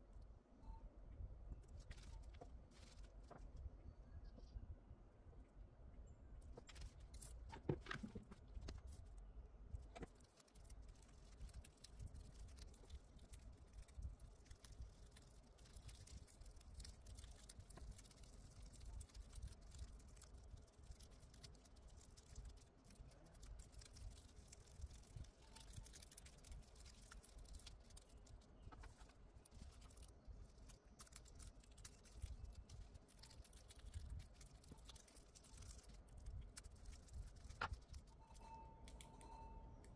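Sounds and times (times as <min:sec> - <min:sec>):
soft ticks and rustles: 0:01.5 - 0:04.6, 0:06.4 - 0:39.9.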